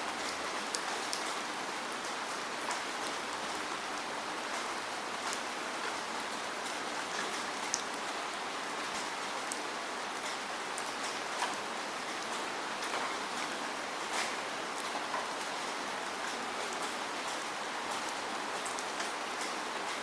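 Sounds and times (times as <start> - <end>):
steady rain hiss: 0.0 - 20.0
raindrops ticking on surface: 0.1 - 20.0.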